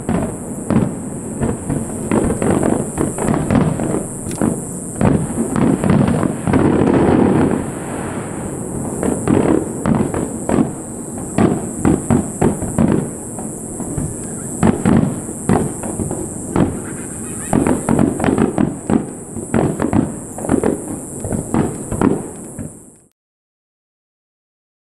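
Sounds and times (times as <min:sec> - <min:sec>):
fireworks bangs and crackles: 0:00.0 - 0:23.1
steady high hiss: 0:00.0 - 0:23.1.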